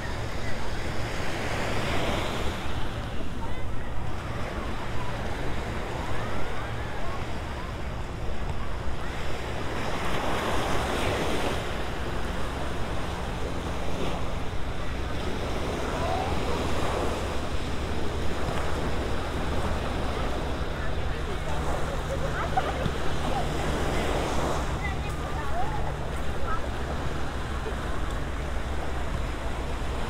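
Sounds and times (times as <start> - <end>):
waves washing on sand: 0.0 - 30.0.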